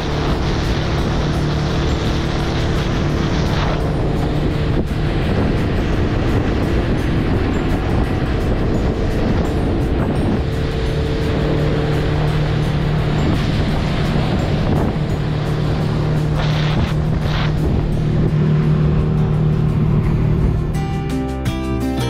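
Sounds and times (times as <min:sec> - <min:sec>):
wind and water rushing: 0:00.0 - 0:21.0
outboard motor running: 0:00.0 - 0:21.5.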